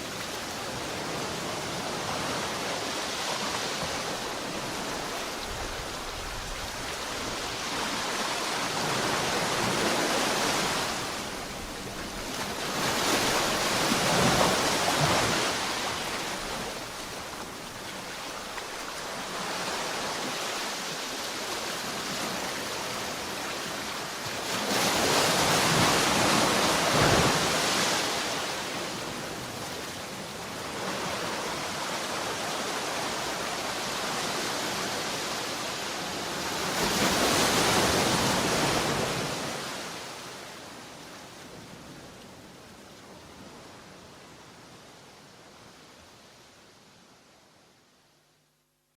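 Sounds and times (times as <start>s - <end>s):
sea waves washing onto shore: 0.0s - 44.3s.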